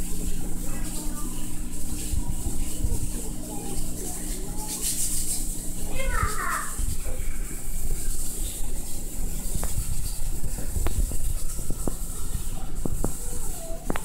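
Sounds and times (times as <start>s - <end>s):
aquarium pumps rumbling: 0.0s - 14.0s
circulating water hiss: 0.0s - 14.0s.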